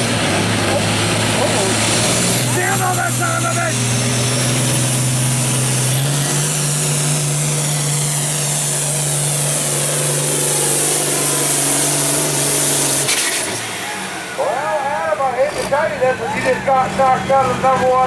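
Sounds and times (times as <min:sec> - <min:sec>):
tractor diesel engine at high revs: 0:00.0 - 0:18.0.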